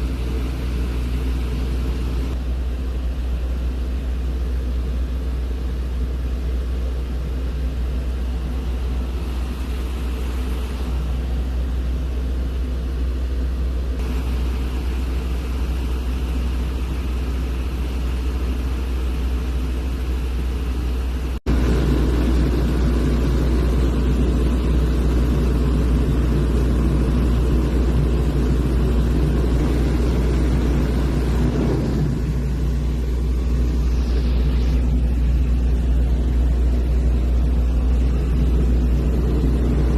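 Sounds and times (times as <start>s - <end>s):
airplane engine droning in cabin: 0.0s - 39.9s.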